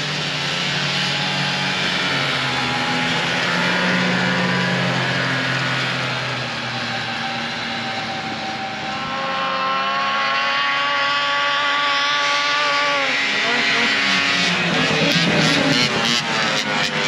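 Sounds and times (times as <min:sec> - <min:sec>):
snowmobile engine passing: 0:00.0 - 0:17.0
snowmobile engine revving: 0:00.0 - 0:17.0.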